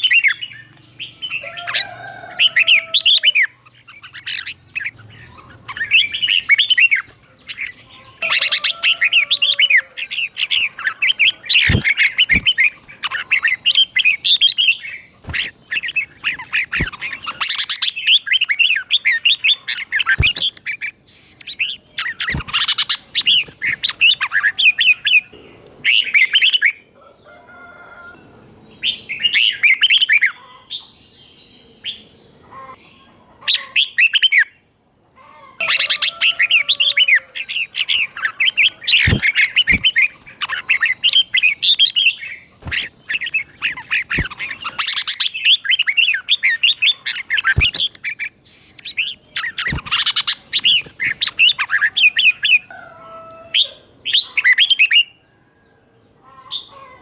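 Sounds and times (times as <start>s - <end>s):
bird warbling song: 0.0s - 26.9s, 35.6s - 55.2s.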